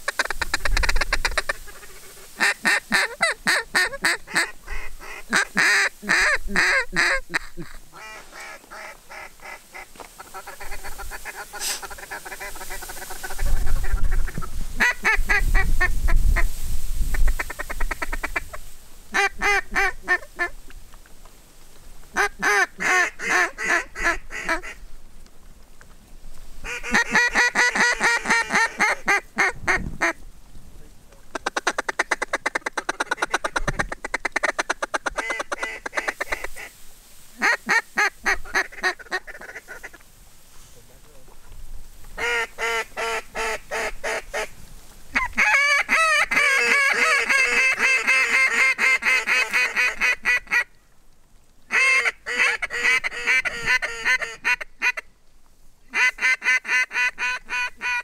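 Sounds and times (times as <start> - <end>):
duck call quacking: 0.0 - 15.9, 17.2 - 20.6, 22.1 - 24.8, 26.6 - 30.2, 31.3 - 36.7, 37.4 - 40.0, 42.2 - 44.5, 45.1 - 50.7, 51.7 - 55.1, 55.9 - 58.0.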